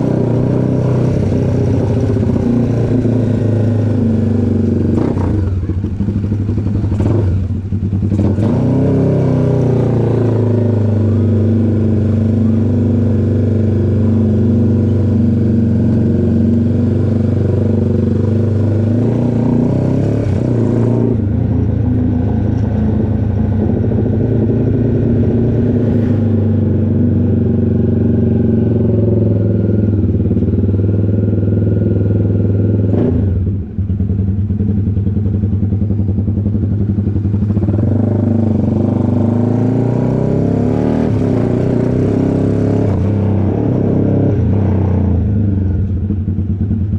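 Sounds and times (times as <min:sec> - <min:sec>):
motorcycle engine running loud: 0:00.0 - 0:46.9.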